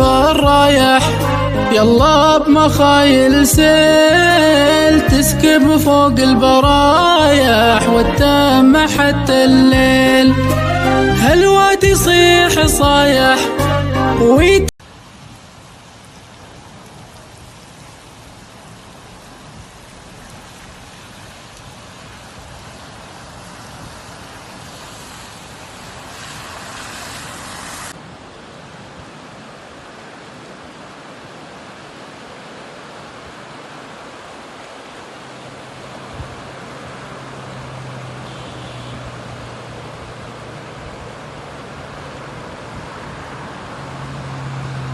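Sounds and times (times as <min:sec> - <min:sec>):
rain and run-off rushing: 0:00.0 - 0:09.3, 0:14.8 - 0:44.9.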